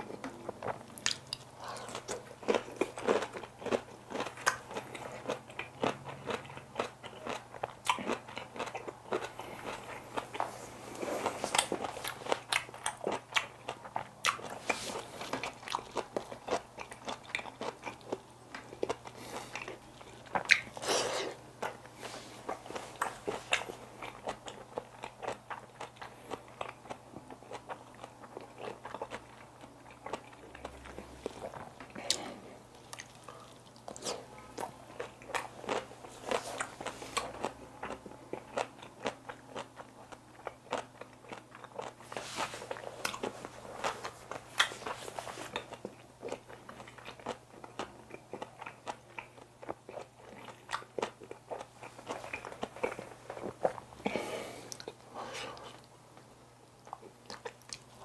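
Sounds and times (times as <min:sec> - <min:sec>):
crunchy chewing: 0:00.1 - 0:58.0.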